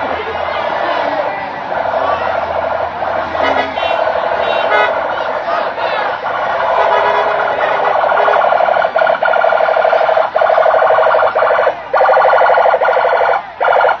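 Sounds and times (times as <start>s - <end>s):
pulsing electronic police siren: 0.0s - 14.0s.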